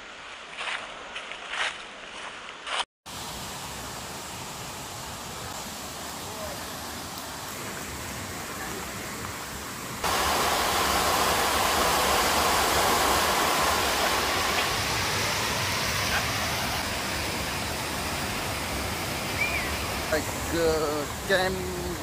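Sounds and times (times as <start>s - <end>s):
river and waterfall rushing: 3.1s - 22.0s.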